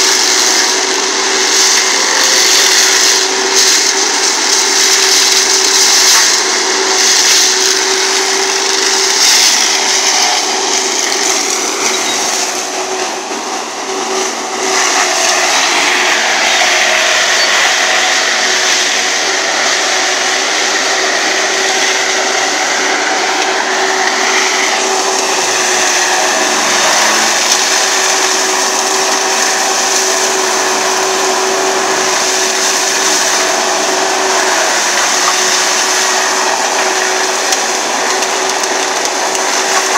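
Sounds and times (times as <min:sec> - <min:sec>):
forestry mulcher grinding: 0:00.0 - 0:39.9.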